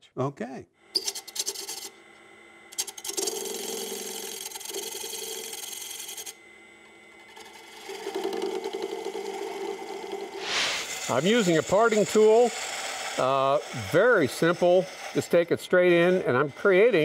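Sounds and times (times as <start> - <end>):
lathe tool scraping wood: 1.0 - 2.0, 2.8 - 6.4, 7.1 - 17.0.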